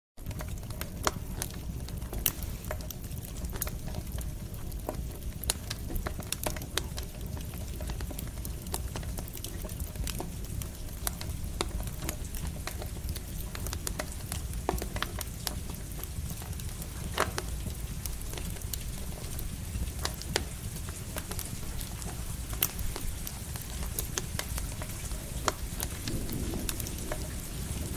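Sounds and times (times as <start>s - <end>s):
campfire crackling and popping: 0.2s - 27.9s
light rain pattering: 0.2s - 27.9s.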